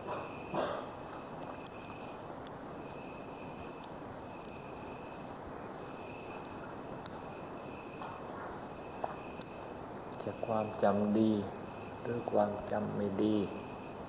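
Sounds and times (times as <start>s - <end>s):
background hiss: 0.0s - 14.0s
insects trilling: 0.0s - 14.0s.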